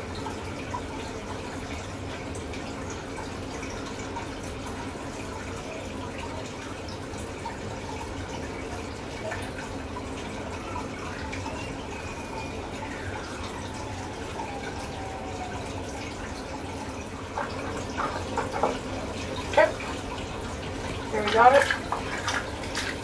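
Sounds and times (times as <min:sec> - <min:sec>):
water trickling and dripping: 0:00.0 - 0:23.0.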